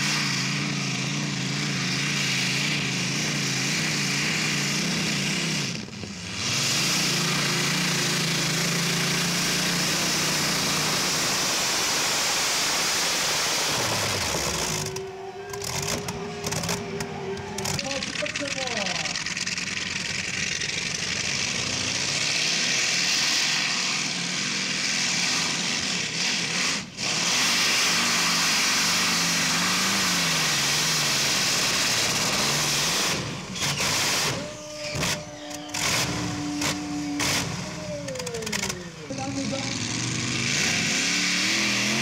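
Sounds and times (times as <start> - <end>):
tractor engine roaring: 0.0 - 42.0.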